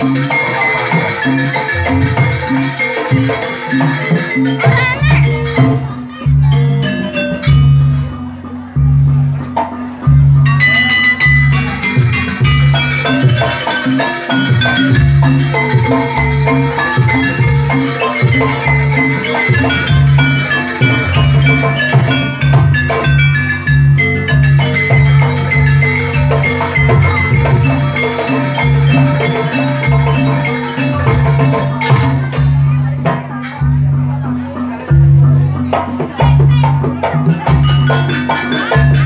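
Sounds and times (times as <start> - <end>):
hand drums and metal percussion: 0.0 - 39.0.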